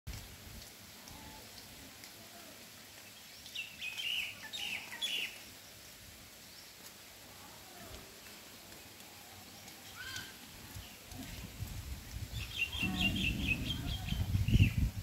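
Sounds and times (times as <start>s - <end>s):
faint outdoor background noise: 0.1s - 15.0s.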